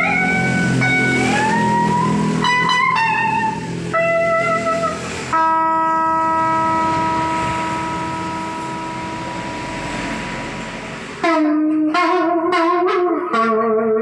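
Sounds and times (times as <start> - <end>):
amplified plucked string notes: 0.0 - 14.0.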